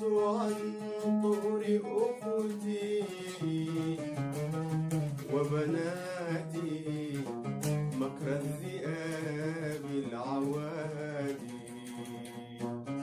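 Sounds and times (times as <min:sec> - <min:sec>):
man singing melismatic phrase: 0:00.0 - 0:04.3, 0:05.1 - 0:13.0
plucked strings: 0:00.0 - 0:13.0.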